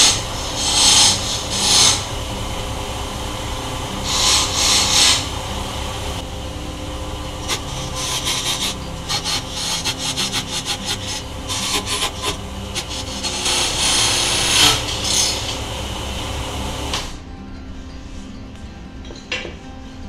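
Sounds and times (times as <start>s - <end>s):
chisel rasping on spinning wood: 0.0s - 6.2s, 6.8s - 17.1s
wood lathe motor hum: 0.0s - 17.2s.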